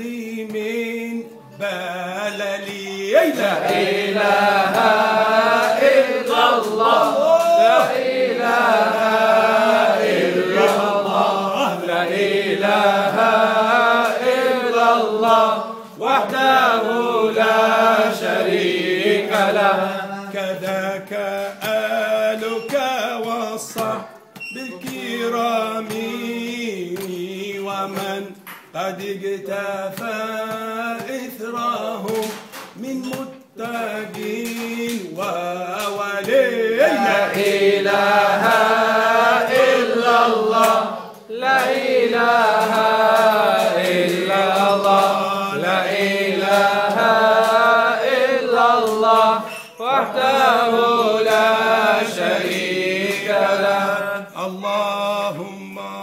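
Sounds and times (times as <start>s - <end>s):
men chanting a devotional song: 0.0s - 56.0s.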